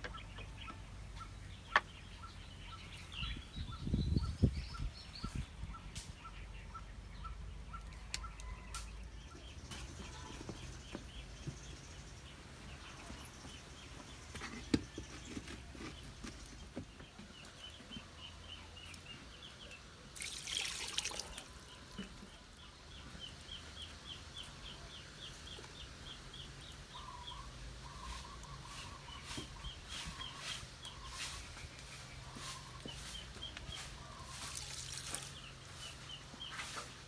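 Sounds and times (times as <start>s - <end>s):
bird chirping: 0.0s - 36.9s.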